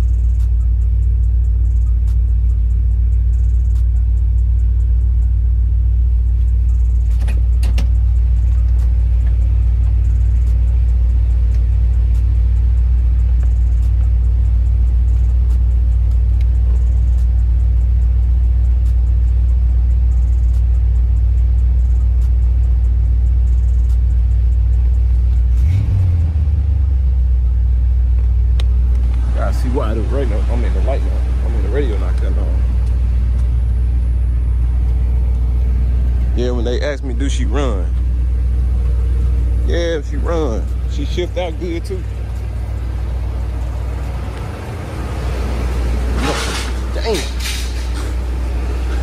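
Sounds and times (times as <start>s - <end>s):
engine idling: 0.0s - 49.0s.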